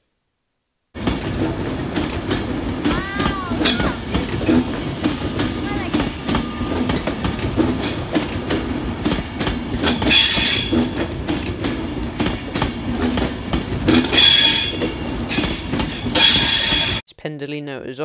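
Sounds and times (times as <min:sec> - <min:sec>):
train wheels clacking over joints: 0:01.0 - 0:17.0.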